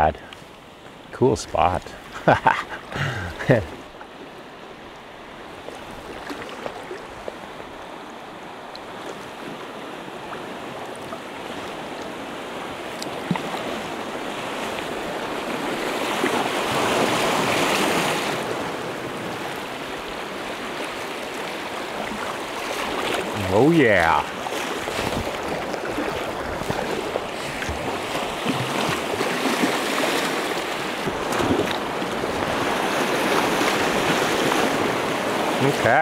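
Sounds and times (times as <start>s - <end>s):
river water rushing through rapid: 3.4s - 36.0s.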